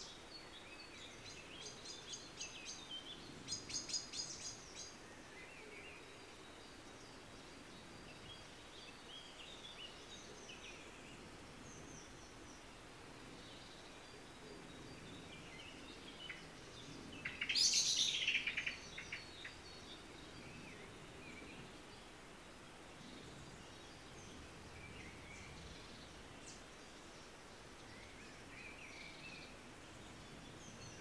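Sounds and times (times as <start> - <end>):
faint outdoor hiss: 0.0 - 31.0
wild birds chirping: 0.0 - 31.0.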